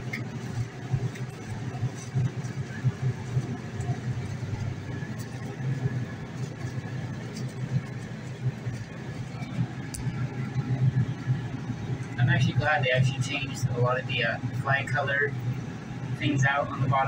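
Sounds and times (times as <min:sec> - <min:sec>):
gondola hum and rumble: 0:00.0 - 0:17.0.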